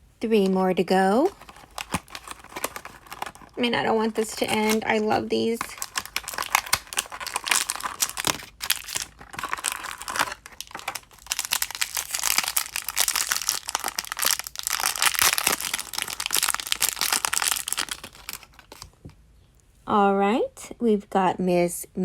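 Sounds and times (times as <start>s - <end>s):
foil and cardboard crinkling: 1.1s - 19.0s.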